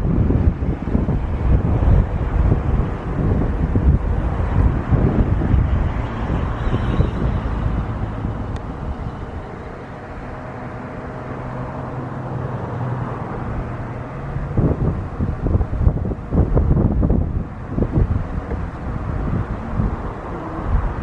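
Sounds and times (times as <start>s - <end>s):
low engine hum: 0.0s - 21.0s
wind buffeting the microphone: 0.0s - 21.0s.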